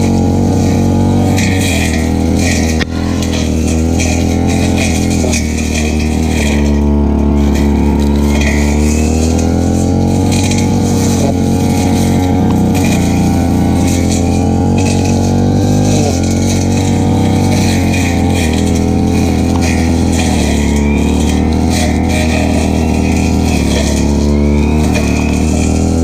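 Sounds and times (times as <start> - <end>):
brush cutter engine cutting grass: 0.0 - 26.0.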